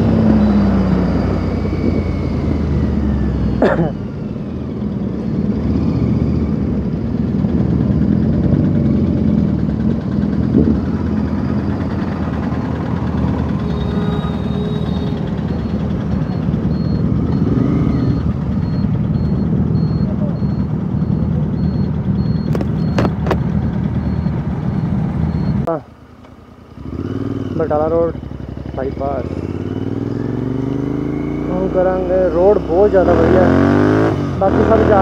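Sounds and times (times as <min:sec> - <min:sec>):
motorcycle engine running: 0:00.0 - 0:35.0
road noise: 0:00.0 - 0:35.0.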